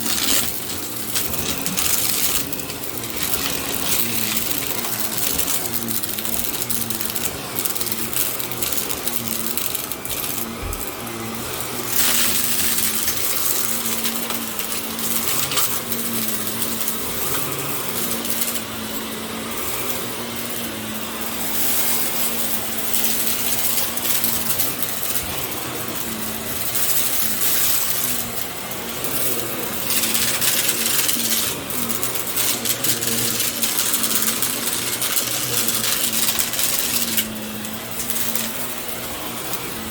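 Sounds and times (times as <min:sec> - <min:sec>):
rapid rattling crackle: 0:00.0 - 0:39.9
vacuum cleaner running: 0:00.0 - 0:39.9.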